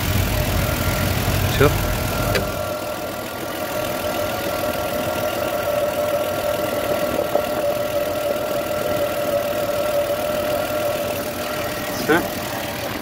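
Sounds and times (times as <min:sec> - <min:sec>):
alternator whine: 0:00.0 - 0:13.0
car engine idling: 0:00.0 - 0:13.0.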